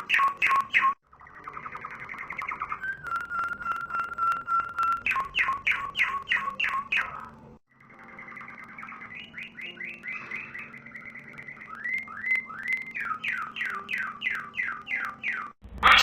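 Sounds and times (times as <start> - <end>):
songbird singing: 0.0 - 15.6.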